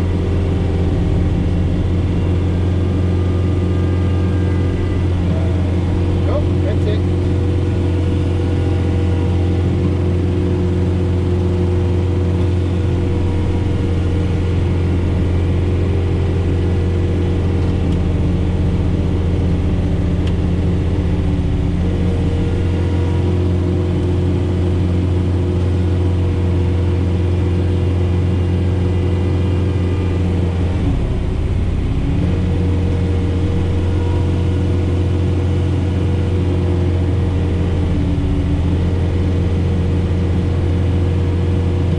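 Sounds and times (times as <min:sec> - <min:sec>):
snowblower through wet snow: 0:00.0 - 0:41.9
tractor diesel engine running: 0:00.0 - 0:41.9.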